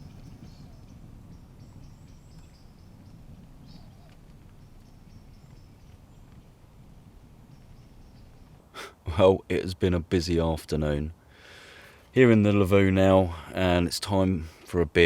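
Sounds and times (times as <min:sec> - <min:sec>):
small birds chirping faintly: 0:00.0 - 0:15.0.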